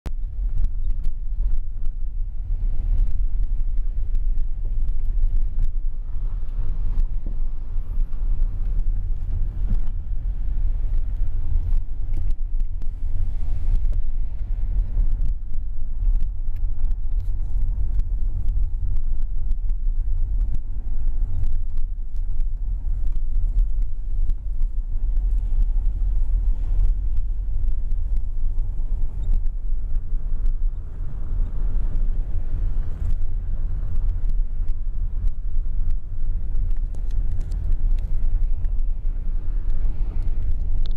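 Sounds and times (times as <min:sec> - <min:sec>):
engine and tyre rumble: 0:00.0 - 0:40.9.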